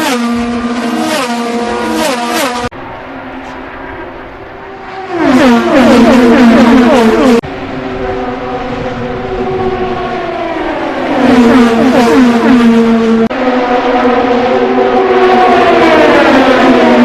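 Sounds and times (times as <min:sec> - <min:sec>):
race car engines at high revs: 0:00.0 - 0:02.8, 0:03.4 - 0:17.0.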